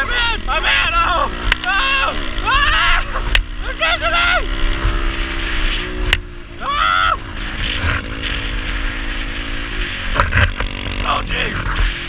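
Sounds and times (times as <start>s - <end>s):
pit bike engine running: 0.0s - 12.0s.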